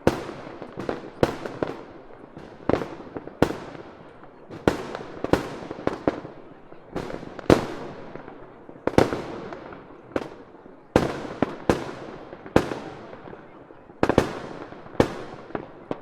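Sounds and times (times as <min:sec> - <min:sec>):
fireworks bangs with echo: 0:00.0 - 0:16.0.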